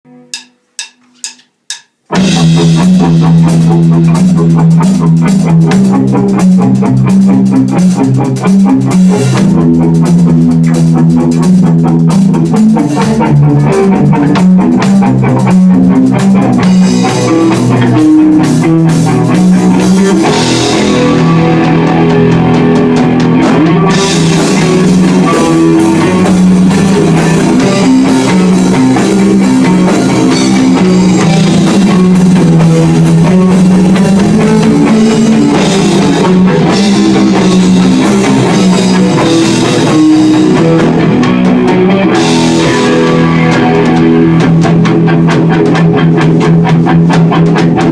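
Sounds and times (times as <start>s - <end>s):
rock band playing instrumental: 0.1s - 47.9s.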